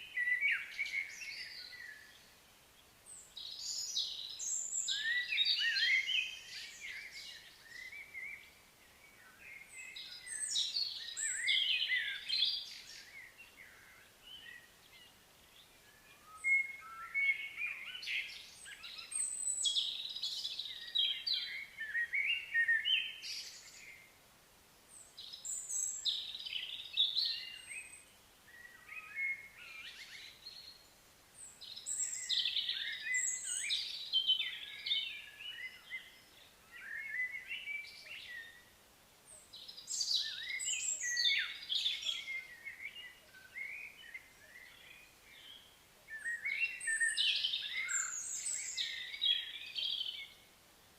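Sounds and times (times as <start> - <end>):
small birds chirping song: 0.0 - 50.9.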